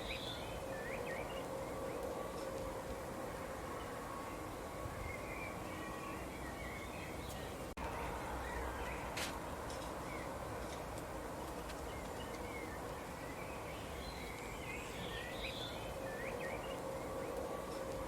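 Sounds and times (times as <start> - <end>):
small birds chirping: 0.0 - 2.6, 3.6 - 18.0.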